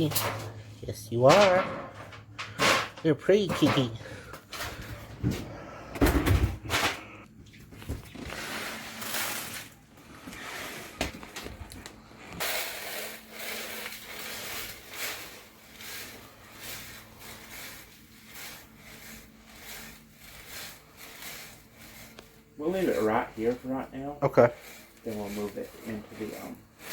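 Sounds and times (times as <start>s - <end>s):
rustling and scraping objects: 0.0s - 26.9s.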